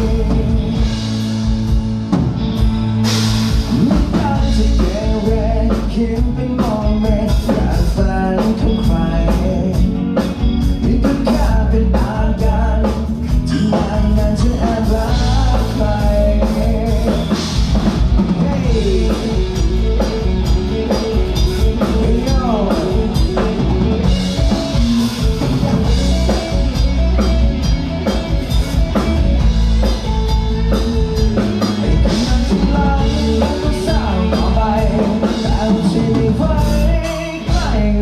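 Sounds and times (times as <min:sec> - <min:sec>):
drum kit beat: 0:00.0 - 0:38.0
guitar: 0:00.0 - 0:38.0
live pop-rock band playing: 0:00.0 - 0:38.0.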